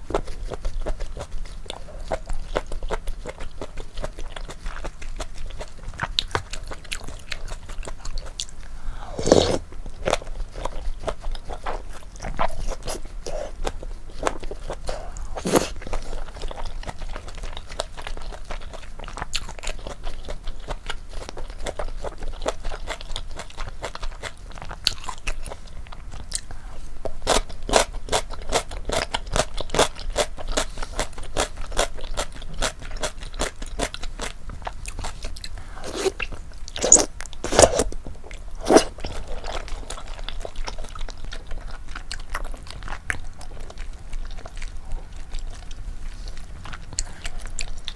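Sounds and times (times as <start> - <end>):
close chewing with crisp crunches: 0.0 - 47.9.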